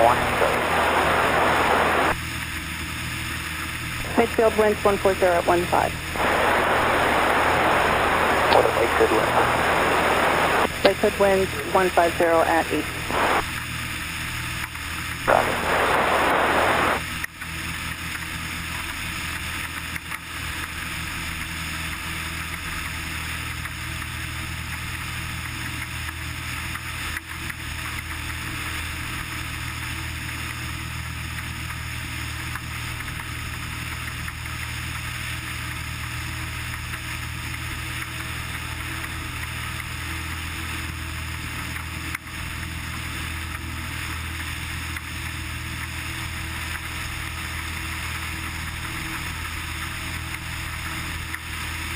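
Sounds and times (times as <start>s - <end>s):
propeller plane engine droning: 0.0s - 51.9s.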